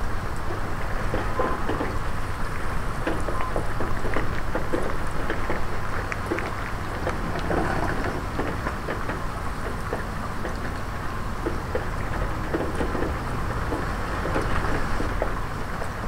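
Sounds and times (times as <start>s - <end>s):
raindrops ticking: 0.0s - 16.0s
wind rumbling: 2.2s - 15.6s.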